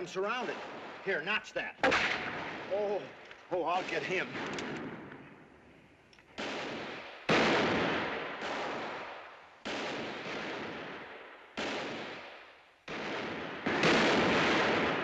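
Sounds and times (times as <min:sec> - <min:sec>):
gunshots echoing: 0:00.0 - 0:15.0.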